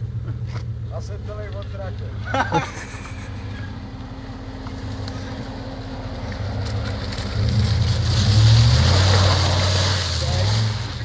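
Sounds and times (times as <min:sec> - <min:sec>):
engine droning in mud: 0:00.0 - 0:11.0.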